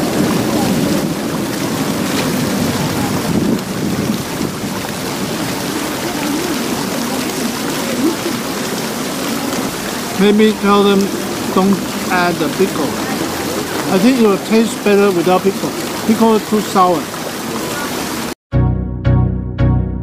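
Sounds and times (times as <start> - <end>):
fountain water splashing: 0.0 - 18.4.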